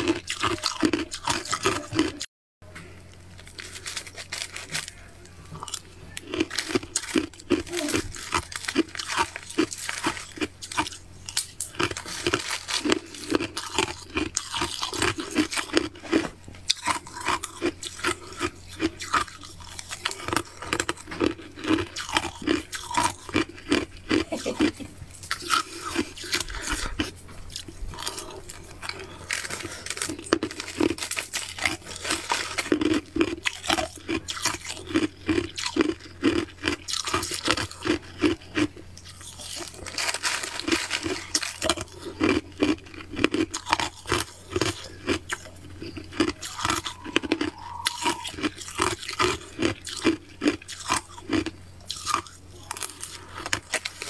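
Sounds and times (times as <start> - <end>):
chewing crushed ice: 0.0 - 54.0.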